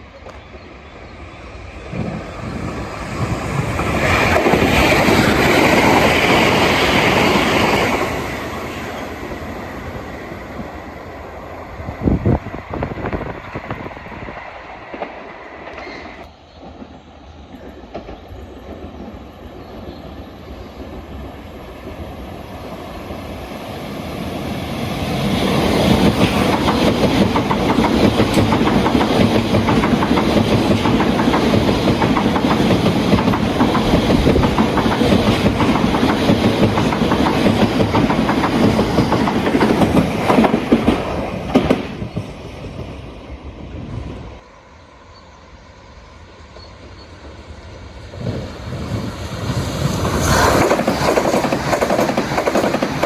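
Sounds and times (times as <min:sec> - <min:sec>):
train rumble: 0:00.0 - 0:53.0.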